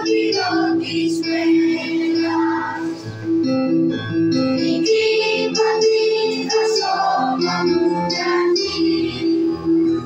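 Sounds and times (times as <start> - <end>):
children's choir singing: 0.0 - 3.0, 4.5 - 10.0.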